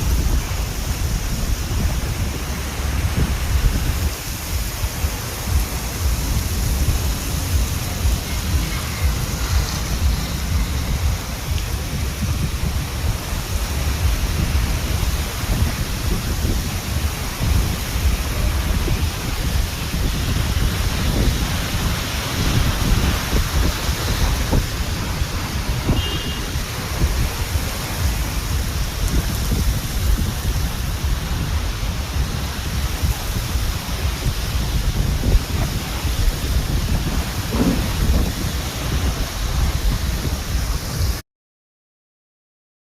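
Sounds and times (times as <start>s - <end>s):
low rumble: 0.0s - 41.1s
rain and wind rushing: 0.0s - 41.2s.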